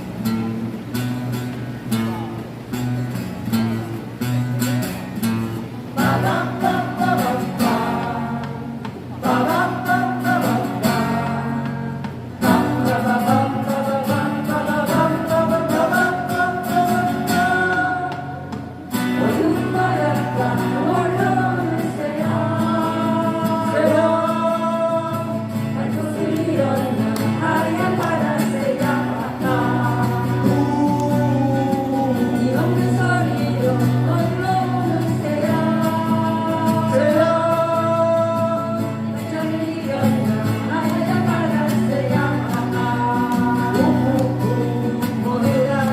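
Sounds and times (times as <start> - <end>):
strummed acoustic guitars: 0.0 - 45.9
voices singing: 5.7 - 45.9.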